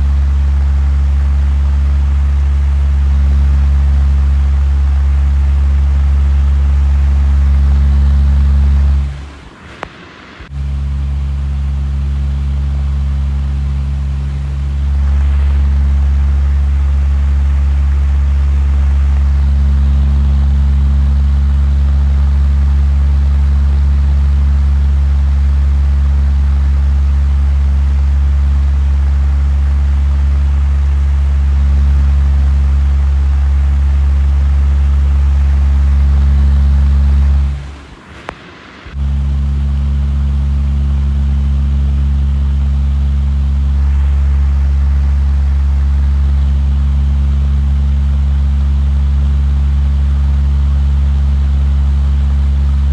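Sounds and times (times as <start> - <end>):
heavy machine engine humming: 0.0 - 48.5.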